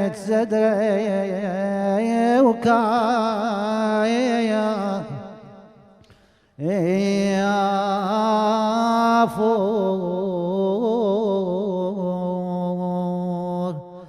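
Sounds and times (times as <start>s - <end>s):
man chanting: 0.0s - 6.0s, 6.6s - 14.0s.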